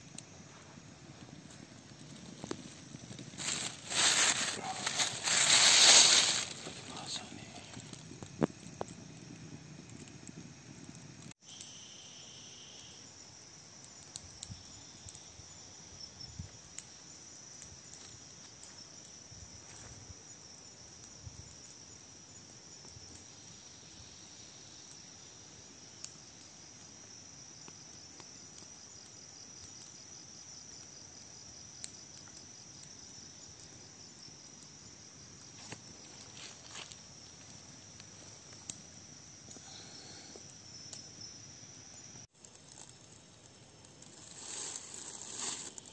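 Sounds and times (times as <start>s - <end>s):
insects trilling: 0.0s - 45.9s
lower insect trill: 0.0s - 45.9s.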